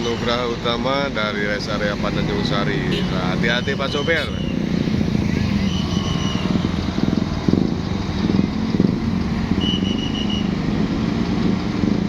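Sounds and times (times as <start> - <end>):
diesel bus engine rumble: 0.0 - 12.0.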